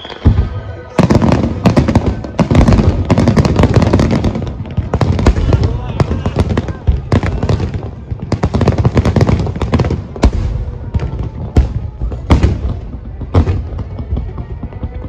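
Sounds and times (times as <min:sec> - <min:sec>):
firework bangs and crackle: 0:00.0 - 0:15.0
loud firework booms: 0:00.2 - 0:14.4.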